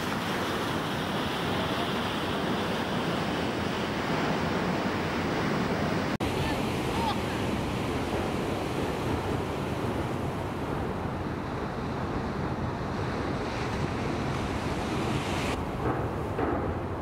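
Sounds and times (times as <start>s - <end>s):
ocean surf breaking: 0.0s - 17.0s.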